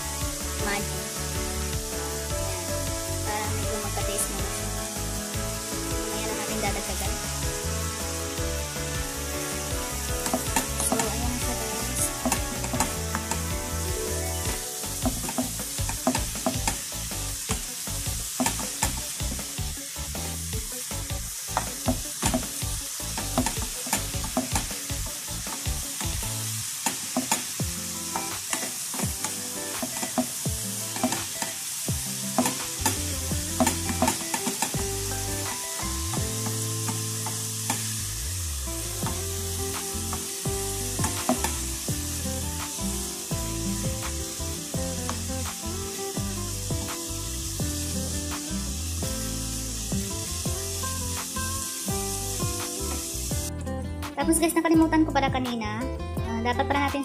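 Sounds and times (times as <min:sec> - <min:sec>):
vegetables sizzling in a frying pan: 0:00.0 - 0:53.5.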